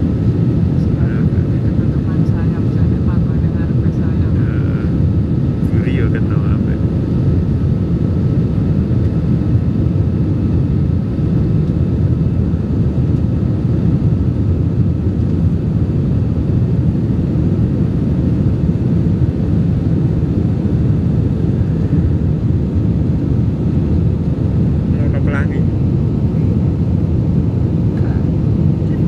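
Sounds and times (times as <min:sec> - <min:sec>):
airliner cabin rumble: 0:00.0 - 0:29.0.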